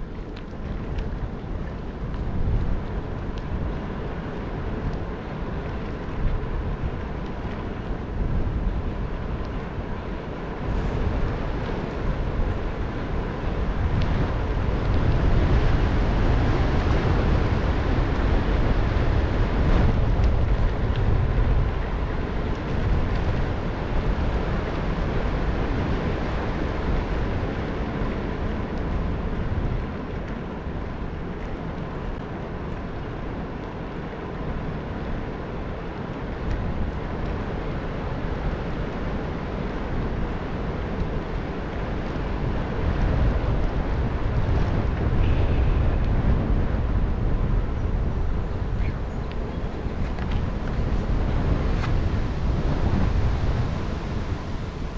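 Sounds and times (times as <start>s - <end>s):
bicycle tyre rumble: 0.0s - 54.9s
wind rushing over microphone: 0.0s - 54.9s.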